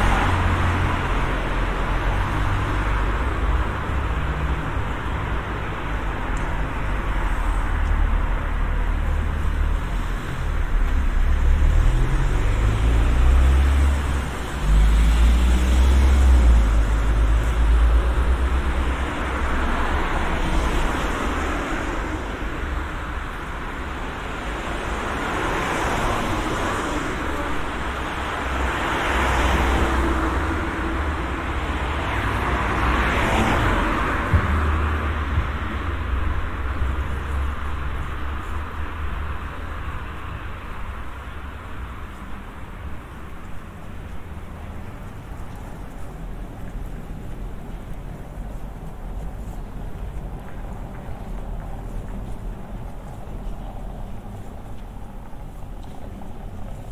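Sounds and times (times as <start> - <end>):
cars passing: 0.0 - 56.9
low traffic rumble: 0.0 - 56.9.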